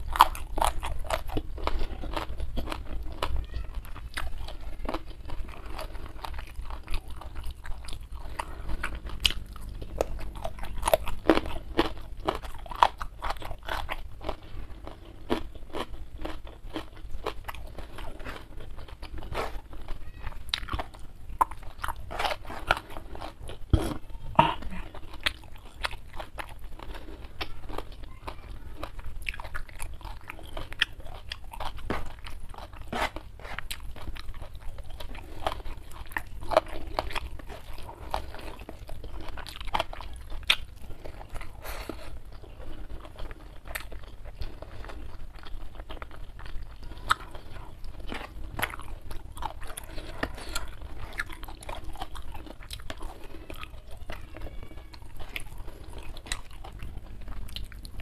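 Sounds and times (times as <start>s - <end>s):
crisp chewing and crunching: 0.0s - 58.0s.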